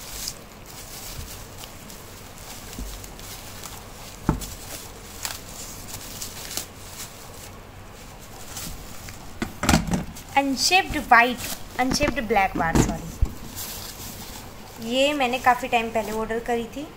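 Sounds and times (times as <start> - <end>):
cardboard rustling: 0.0 - 16.7
plastic wrapping crinkling: 0.0 - 16.9.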